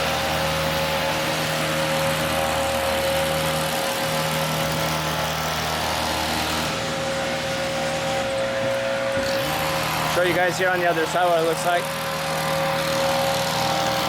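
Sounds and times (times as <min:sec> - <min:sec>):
small engine running at high speed: 0:00.0 - 0:14.0.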